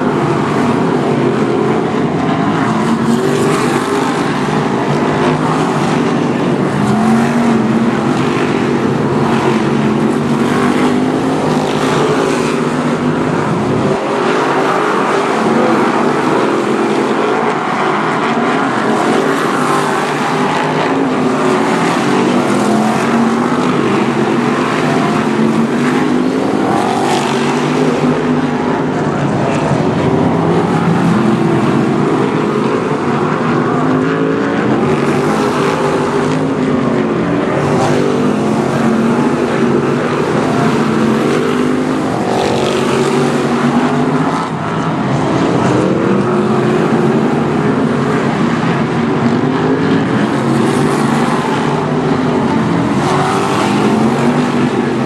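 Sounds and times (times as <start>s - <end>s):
race car engines at full throttle: 0.0s - 55.0s.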